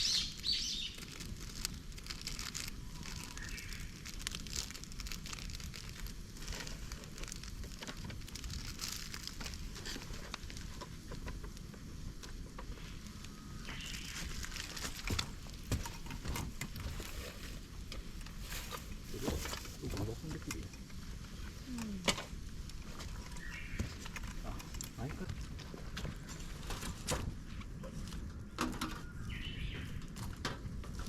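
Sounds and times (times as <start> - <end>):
fire crackling: 0.0 - 28.6.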